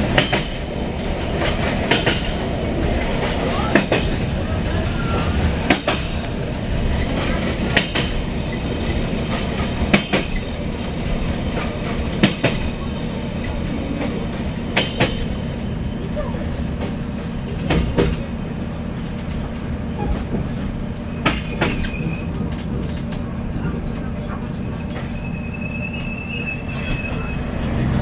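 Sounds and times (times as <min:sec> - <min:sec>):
wheels clacking over rail joints: 0:00.0 - 0:25.2
train low rumble: 0:00.0 - 0:28.0.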